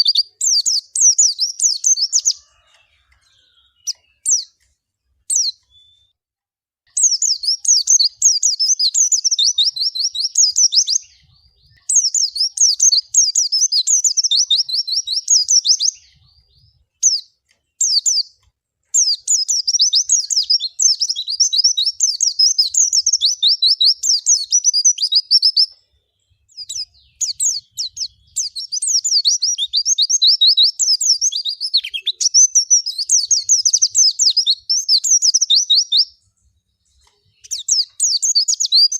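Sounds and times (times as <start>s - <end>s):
bird twittering: 0.0s - 4.6s, 7.0s - 25.8s, 26.4s - 36.2s, 36.9s - 38.9s
bird chirps: 0.0s - 6.2s, 6.9s - 38.9s.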